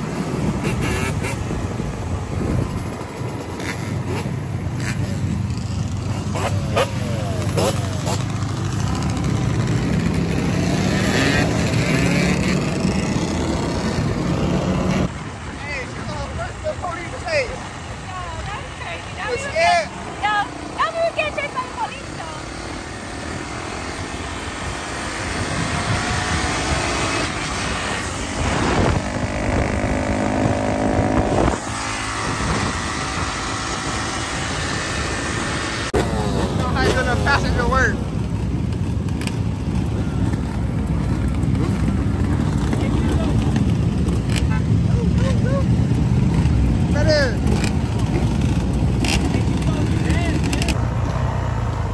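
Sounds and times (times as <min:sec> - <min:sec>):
vehicle engine droning: 0:00.0 - 0:51.9
wind and road noise: 0:00.0 - 0:51.9.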